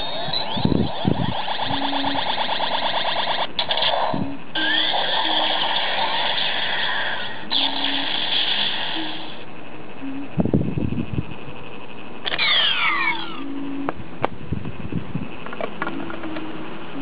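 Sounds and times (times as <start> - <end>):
toy belt buzzy synth effect: 0.0 - 13.9.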